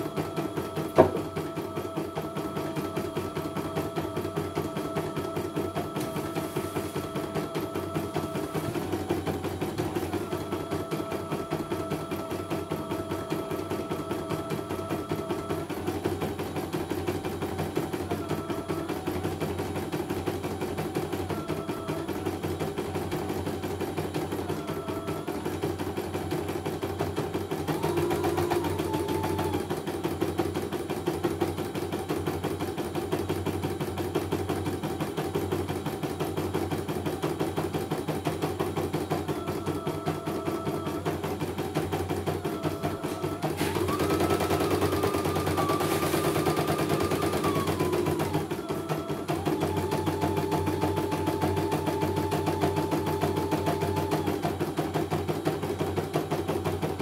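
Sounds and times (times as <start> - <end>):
machine whine: 0.0 - 57.0.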